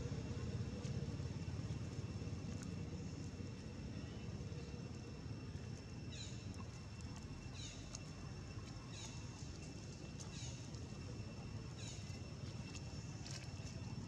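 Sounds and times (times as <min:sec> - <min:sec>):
faint high whine: 0:00.0 - 0:14.0
steady low rumble: 0:00.0 - 0:14.0.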